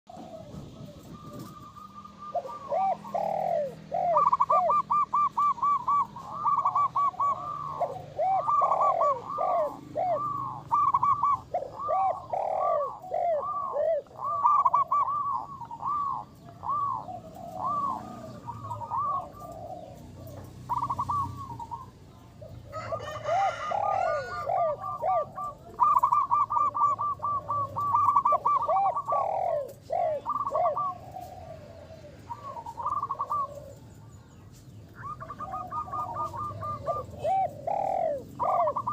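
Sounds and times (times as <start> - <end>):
dove cooing: 0.1 - 38.9.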